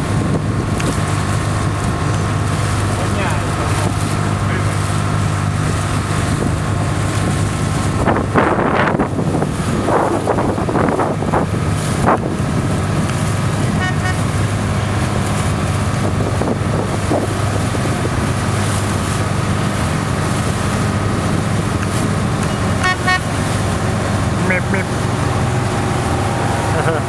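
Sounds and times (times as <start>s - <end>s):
boat engine running: 0.0s - 27.0s
wind and water noise: 0.0s - 27.0s.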